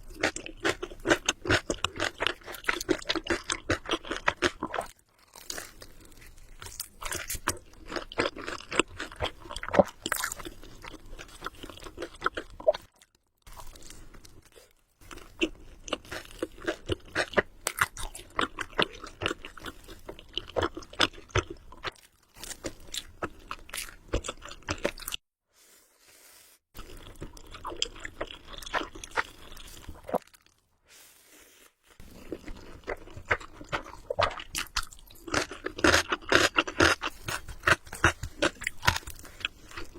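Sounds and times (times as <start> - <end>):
person chewing with crunches: 0.0 - 25.2, 26.1 - 39.9.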